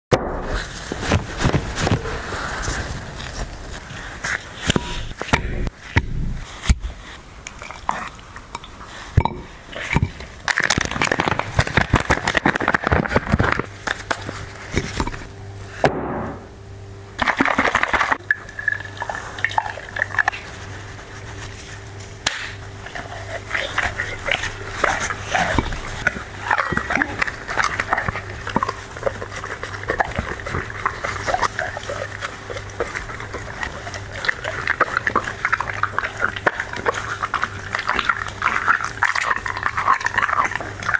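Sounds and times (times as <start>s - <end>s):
dog chewing and crunching food: 0.5s - 15.3s, 17.2s - 40.9s.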